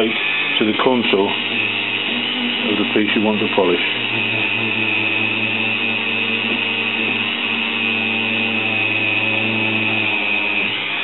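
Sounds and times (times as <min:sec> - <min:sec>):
electric drill polishing glass: 0:00.0 - 0:11.0.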